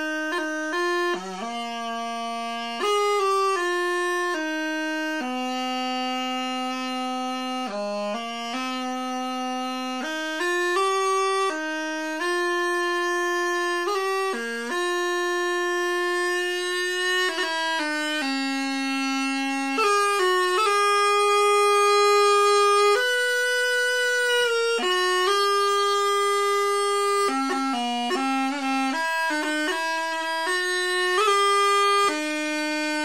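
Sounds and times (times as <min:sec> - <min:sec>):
bagpipe practice chanter tune: 0:00.0 - 0:33.0.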